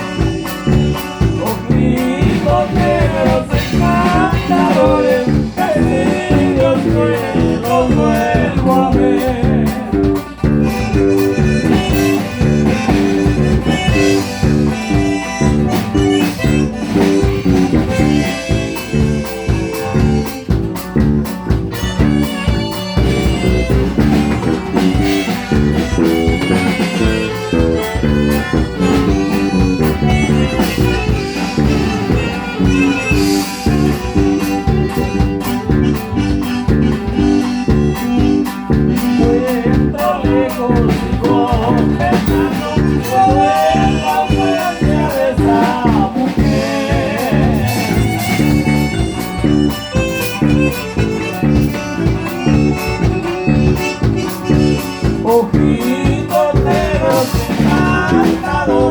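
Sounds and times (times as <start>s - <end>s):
accordion melody: 0.0s - 58.9s
bass bouncing beat: 0.0s - 58.9s
strummed guitar: 0.0s - 58.9s.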